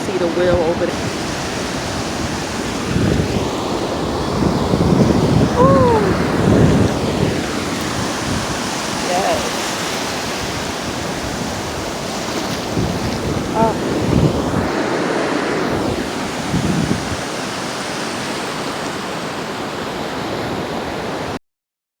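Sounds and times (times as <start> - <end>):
wind buffeting microphone: 0.0 - 18.0
ocean surf washing onto beach: 0.0 - 21.4.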